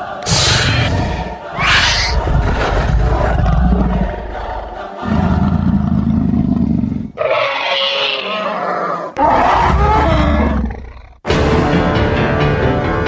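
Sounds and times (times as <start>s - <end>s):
deep animal-like roars and growls: 0.2s - 11.2s.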